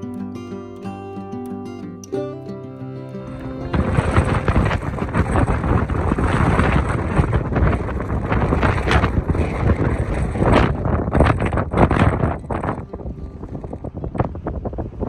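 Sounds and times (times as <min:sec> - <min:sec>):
wind buffeting microphone: 0:02.9 - 0:15.0.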